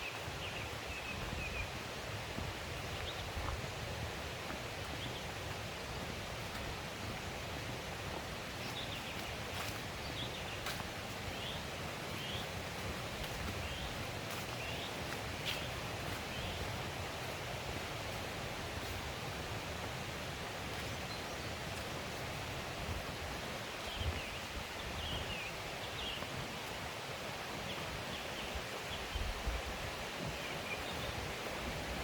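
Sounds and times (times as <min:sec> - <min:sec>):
mountain stream rushing: 0:00.0 - 0:32.0.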